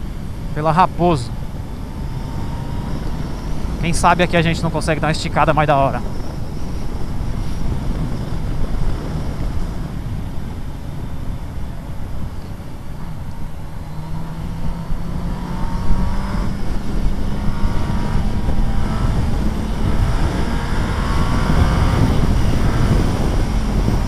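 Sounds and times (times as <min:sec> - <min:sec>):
wind and road noise: 0:00.0 - 0:24.0
motorcycle engine accelerating: 0:01.4 - 0:10.7, 0:12.0 - 0:24.0.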